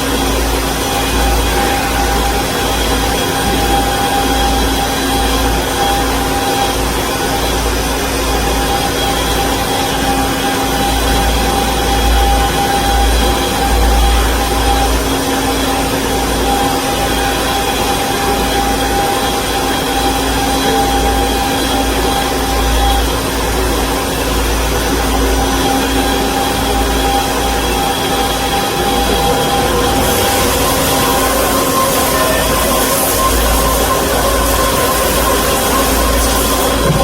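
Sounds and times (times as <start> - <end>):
band saw machine running: 0.0 - 37.0.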